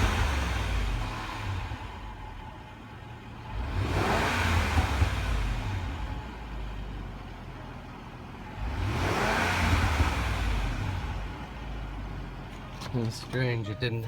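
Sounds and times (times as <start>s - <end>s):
car engine revving: 0.0s - 13.6s.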